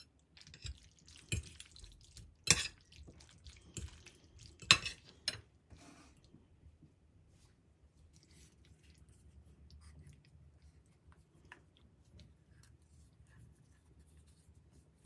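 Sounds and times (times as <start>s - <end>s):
soft wet stirring: 0.0s - 15.0s.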